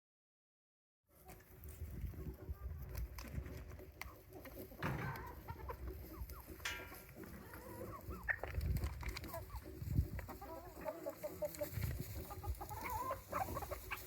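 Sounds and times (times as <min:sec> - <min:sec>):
chickens clucking: 0:01.2 - 0:14.0.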